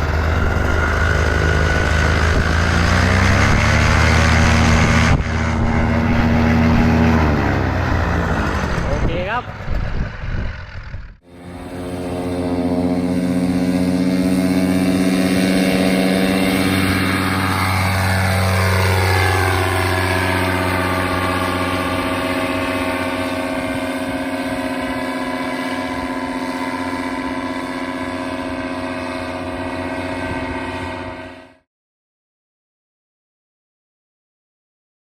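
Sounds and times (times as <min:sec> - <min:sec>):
two-stroke engine at high revs: 0:00.0 - 0:31.6.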